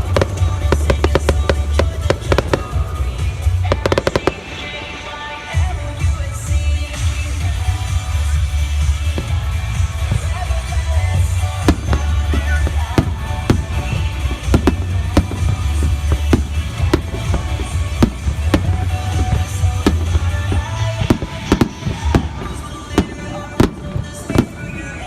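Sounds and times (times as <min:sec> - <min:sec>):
fireworks bursting with sharp bangs: 0:00.0 - 0:25.0
music with heavy bass: 0:00.0 - 0:25.0.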